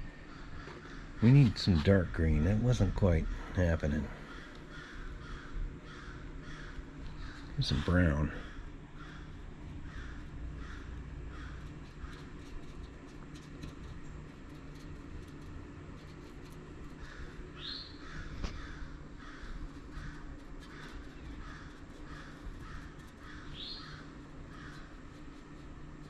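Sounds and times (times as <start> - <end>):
birds calling: 0.0 - 12.5, 16.9 - 25.6
steady low hum: 0.0 - 26.0.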